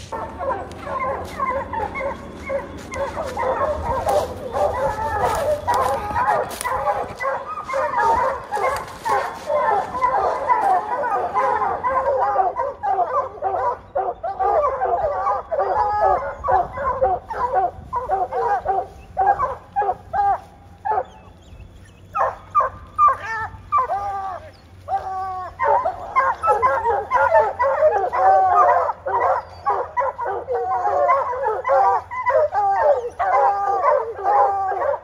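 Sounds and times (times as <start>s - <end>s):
hunting dogs barking and baying: 0.0s - 35.0s.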